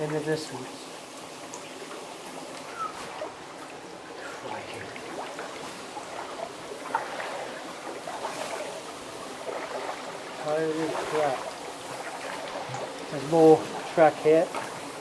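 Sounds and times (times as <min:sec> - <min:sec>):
water dripping: 0:00.0 - 0:15.0
water splashing and trickling: 0:00.0 - 0:15.0.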